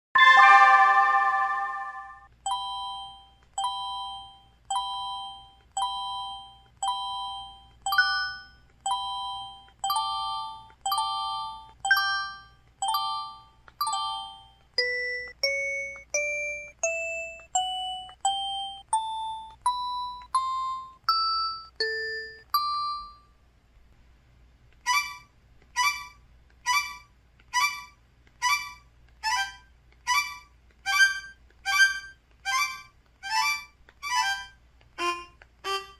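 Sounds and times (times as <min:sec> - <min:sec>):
climbing scale of tones: 0:01.8 - 0:23.3, 0:24.7 - 0:35.9.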